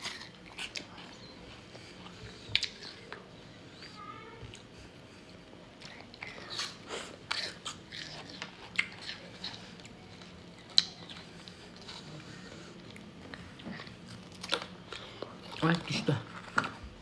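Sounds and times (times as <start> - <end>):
ice being chewed and crunched: 0.0 - 3.2, 5.8 - 17.0.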